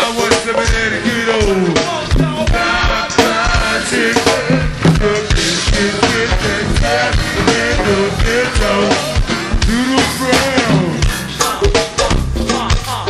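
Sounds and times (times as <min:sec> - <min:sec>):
drum kit driving beat: 0:00.0 - 0:13.0.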